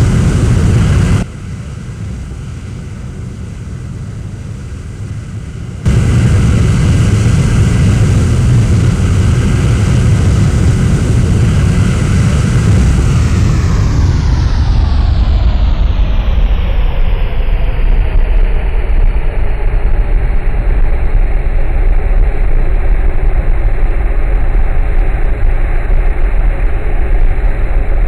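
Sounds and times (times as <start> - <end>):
fighter jet engine roar: 0.0 - 28.0.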